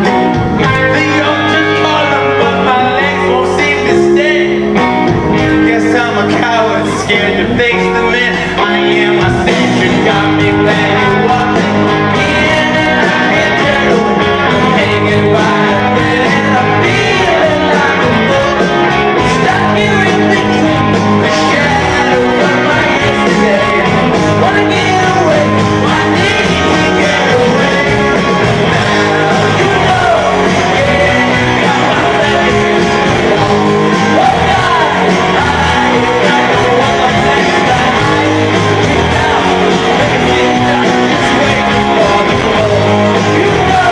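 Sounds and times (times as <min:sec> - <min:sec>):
electric guitar: 0:00.0 - 0:43.9
rock band playing live: 0:00.0 - 0:43.9
singing vocals: 0:00.0 - 0:43.9.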